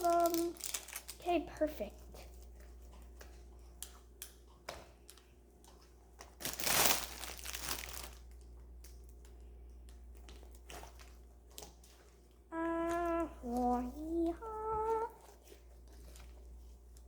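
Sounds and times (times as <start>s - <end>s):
slime crinkling: 0.0s - 4.4s, 5.0s - 17.0s.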